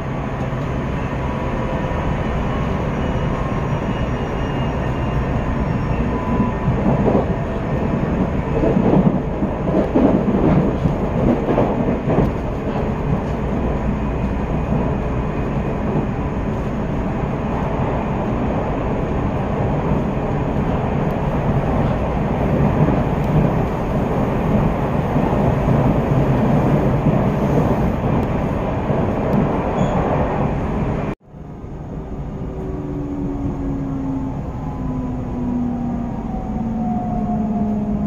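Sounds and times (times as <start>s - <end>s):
wheels rumbling on rail: 0.0s - 38.0s.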